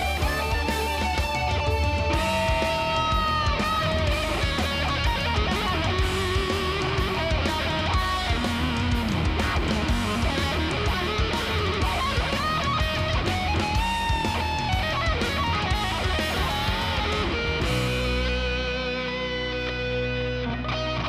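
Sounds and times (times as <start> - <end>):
bass: 0.0 - 21.0
bending lead guitar melody: 0.0 - 21.0
drums: 0.0 - 21.0
electric guitars: 0.0 - 21.0.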